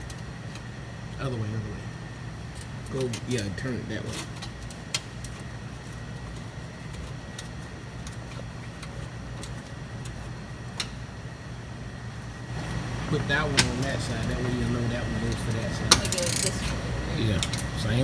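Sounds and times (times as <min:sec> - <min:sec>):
workshop low hum: 0:00.0 - 0:18.0.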